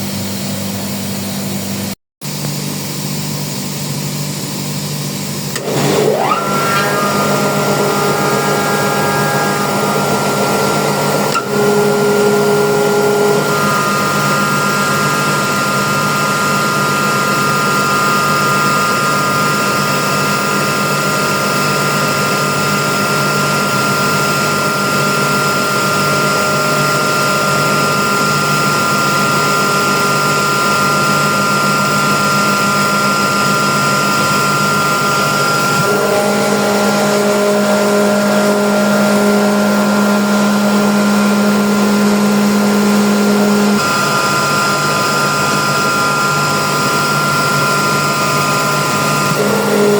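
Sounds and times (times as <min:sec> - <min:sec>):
air compressor whining: 0:00.0 - 0:49.9.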